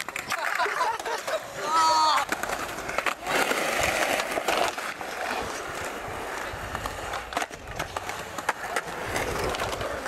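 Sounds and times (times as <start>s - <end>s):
skateboard clacks: 0.0s - 10.0s
skateboard wheels rolling on concrete: 0.0s - 10.0s.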